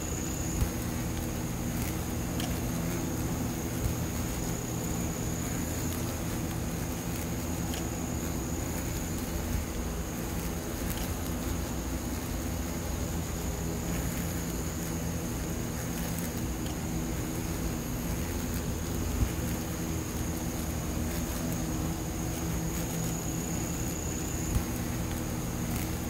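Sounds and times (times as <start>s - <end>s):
hornet wings buzzing: 0.0s - 26.0s.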